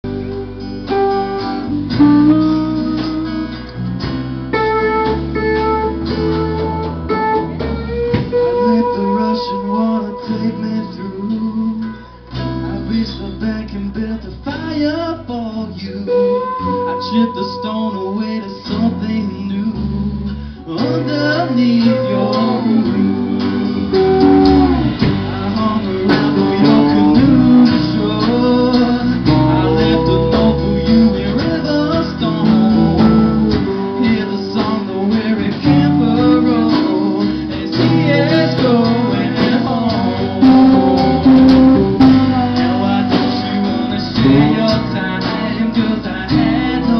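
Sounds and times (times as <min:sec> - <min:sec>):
live band playing: 0:00.0 - 0:46.9
strummed acoustic guitar: 0:00.0 - 0:46.9
man singing: 0:07.7 - 0:46.9.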